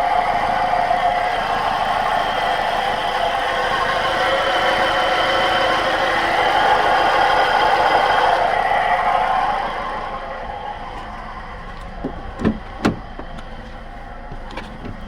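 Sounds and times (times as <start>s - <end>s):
car engine clattering: 0.0s - 15.0s.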